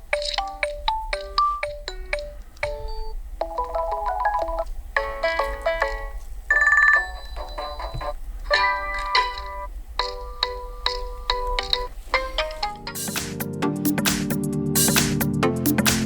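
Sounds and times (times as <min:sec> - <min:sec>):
electronic ringtone melodies: 0:00.0 - 0:13.2
trilling ringtone: 0:00.2 - 0:13.1.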